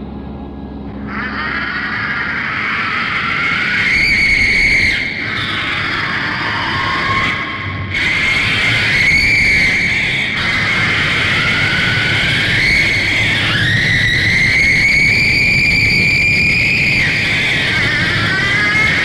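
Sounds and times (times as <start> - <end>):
shrill screeching tone: 0.9 - 19.0.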